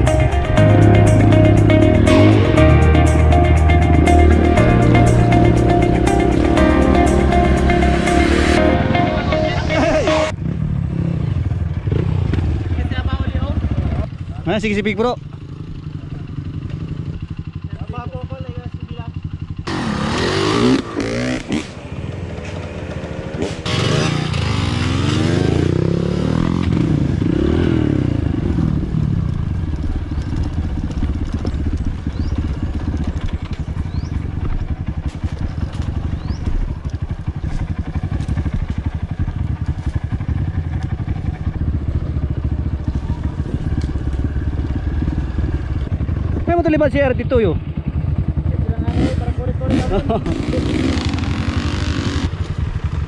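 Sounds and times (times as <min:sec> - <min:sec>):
dirt bike engine revving: 0:00.0 - 0:14.8, 0:19.2 - 0:46.5, 0:47.8 - 0:53.0.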